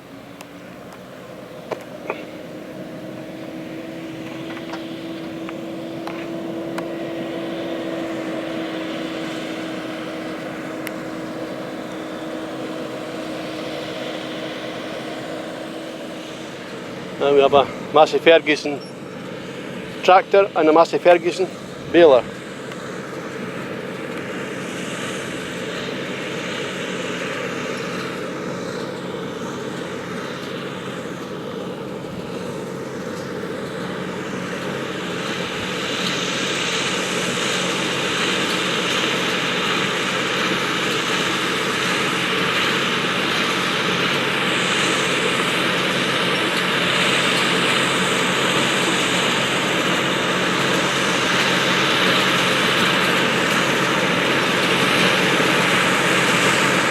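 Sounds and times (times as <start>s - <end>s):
tractor and baler running: 0.0s - 56.9s.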